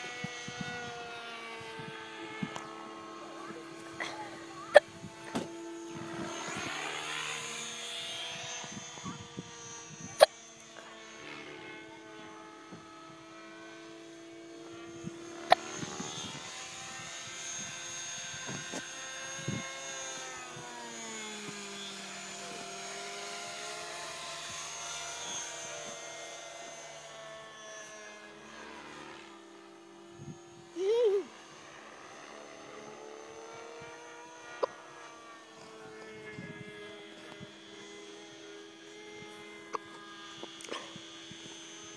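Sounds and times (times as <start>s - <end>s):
model airplane motor buzzing: 0.0s - 41.9s.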